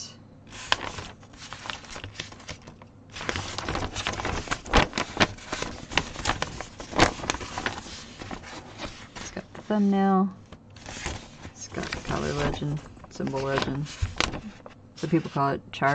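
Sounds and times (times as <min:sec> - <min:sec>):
kit packaging crinkling: 0:00.6 - 0:09.7, 0:10.5 - 0:15.2.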